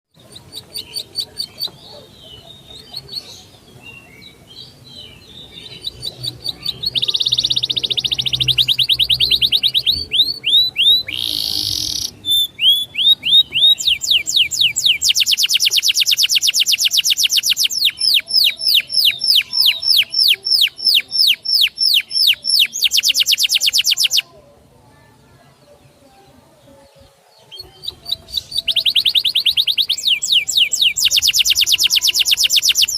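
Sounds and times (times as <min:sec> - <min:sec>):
songbird chirping and trilling: 0:00.1 - 0:32.9.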